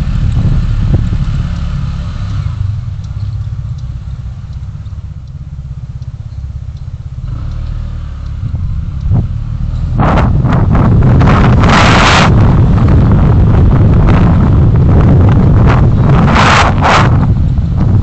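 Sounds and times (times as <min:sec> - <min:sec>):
road vehicle rumble: 0:00.0 - 0:18.0.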